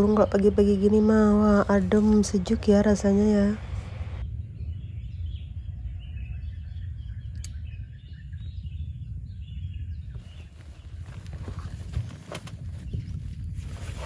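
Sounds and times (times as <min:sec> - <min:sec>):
low rumble of wind: 0:00.0 - 0:14.0
small birds chirping: 0:00.0 - 0:14.0.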